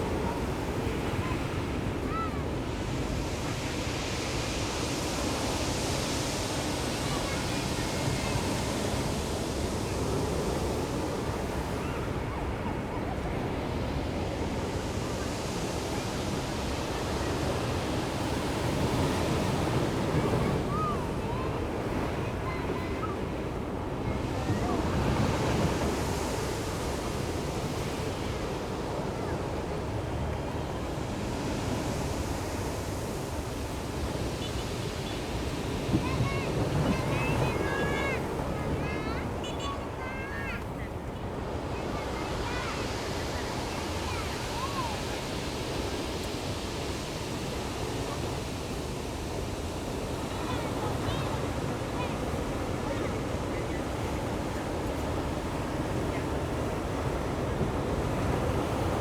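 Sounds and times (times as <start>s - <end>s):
ocean surf washing onto shore: 0.0s - 59.0s
waves breaking: 0.0s - 59.0s.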